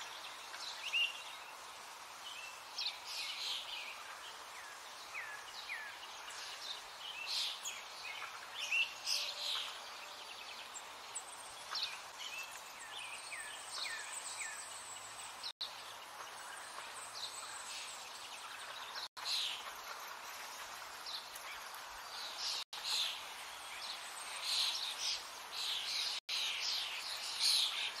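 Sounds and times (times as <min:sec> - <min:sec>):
small birds chirping: 0:00.0 - 0:28.0
steady outdoor hiss: 0:00.0 - 0:28.0.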